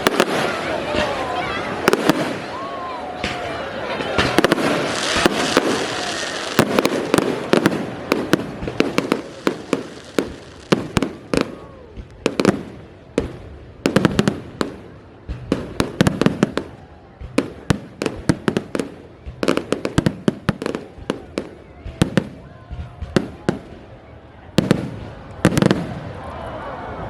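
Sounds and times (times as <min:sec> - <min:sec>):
fireworks bangs and crackles: 0:00.0 - 0:26.3.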